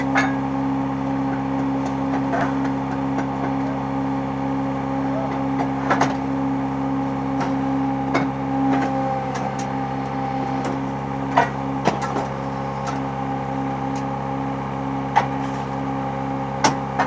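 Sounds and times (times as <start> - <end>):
motor and pump humming: 0.0 - 17.0.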